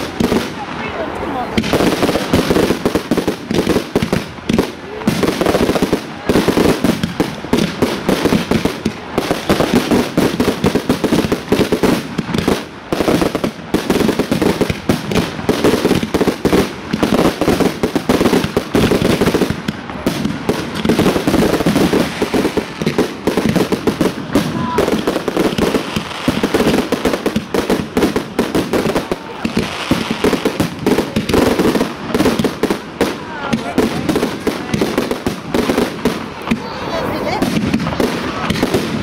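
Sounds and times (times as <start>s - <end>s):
fireworks shells bursting: 1.5s - 36.7s.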